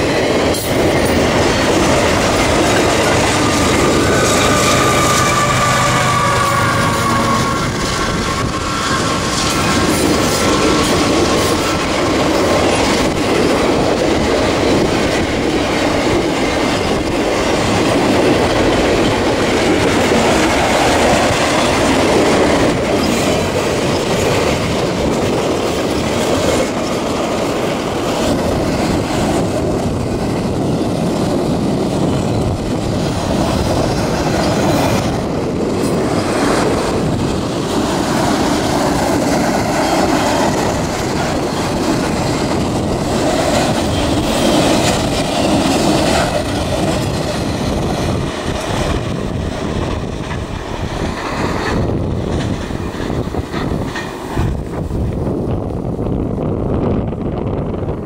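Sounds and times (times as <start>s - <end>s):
freight train cars rolling: 0.0s - 58.0s
wind buffeting microphone: 0.0s - 58.0s.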